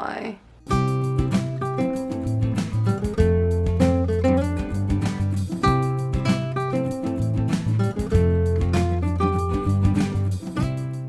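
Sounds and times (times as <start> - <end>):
acoustic guitar music with beat: 0.6 - 11.0.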